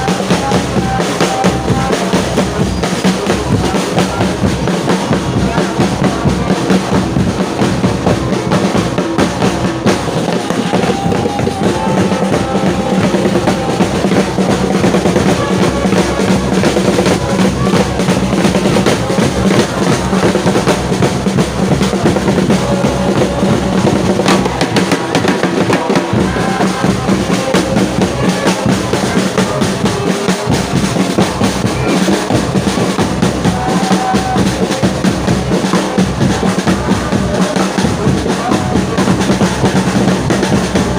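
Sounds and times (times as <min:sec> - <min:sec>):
crowd chanting: 0:00.0 - 0:40.9
drums beating: 0:00.0 - 0:40.9.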